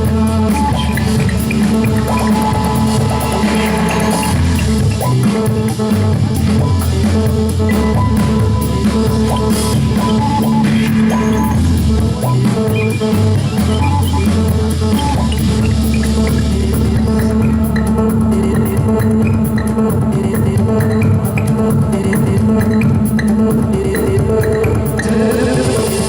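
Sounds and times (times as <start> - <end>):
drum kit beat: 0.0 - 26.0
rock band playing: 0.0 - 26.0.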